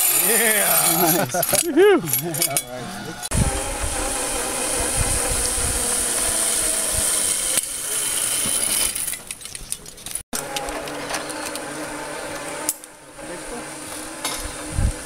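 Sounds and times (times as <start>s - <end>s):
zip-line pulleys whirring: 0.0s - 15.0s.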